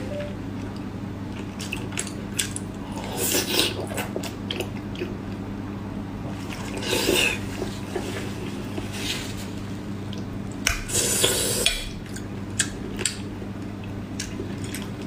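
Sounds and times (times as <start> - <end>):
steady low hum: 0.0 - 15.0
close chewing and mouth sounds: 0.6 - 5.4, 6.2 - 9.3, 10.0 - 15.0.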